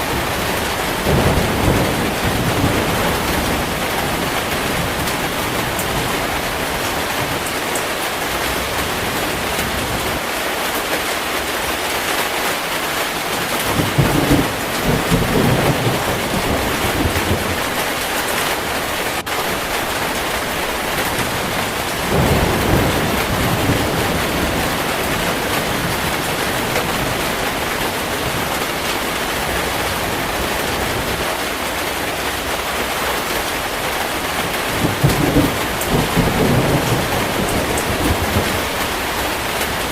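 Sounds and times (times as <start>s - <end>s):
thunder rumbling: 0.0s - 10.2s, 13.4s - 31.3s, 33.6s - 39.9s
heavy rain falling: 0.0s - 39.9s.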